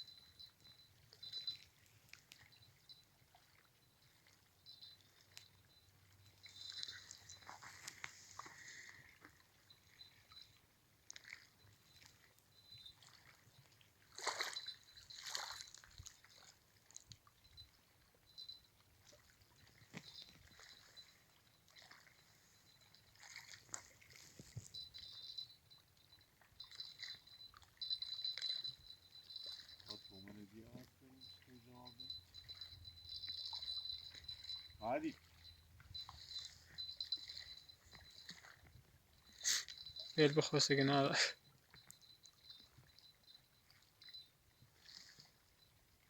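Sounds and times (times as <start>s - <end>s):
water splashing and sloshing: 0.0s - 46.0s.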